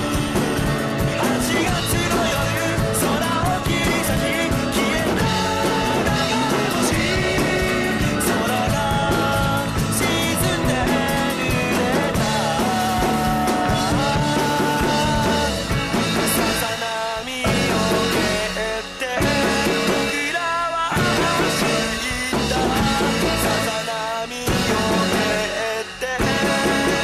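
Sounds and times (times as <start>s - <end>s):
band song with drums and vocals: 0.0s - 27.0s.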